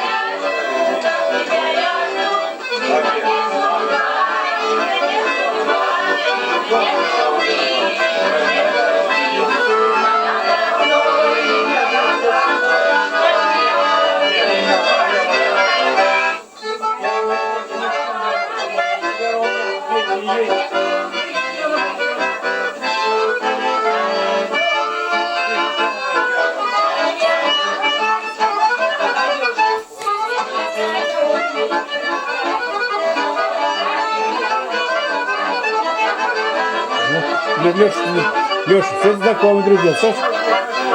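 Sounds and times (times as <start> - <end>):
button accordion playing a tune: 0.0 - 40.9.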